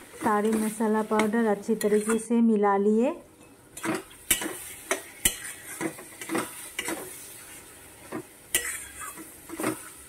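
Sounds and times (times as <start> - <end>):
spatula scraping metal pan: 0.0 - 2.3, 3.8 - 10.0
oil sizzling: 0.0 - 10.0.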